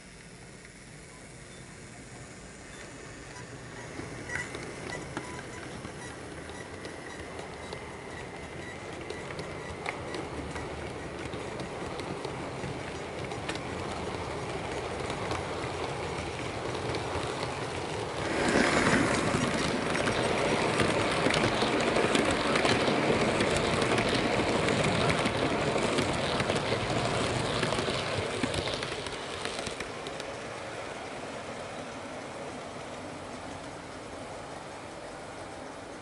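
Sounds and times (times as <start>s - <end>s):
model train wheels clicking: 0.0s - 36.0s.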